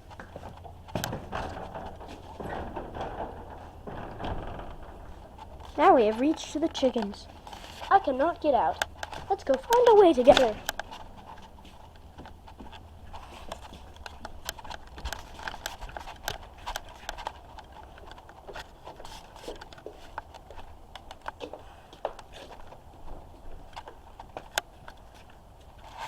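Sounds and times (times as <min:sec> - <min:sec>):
rustling and scraping: 0:00.0 - 0:26.0.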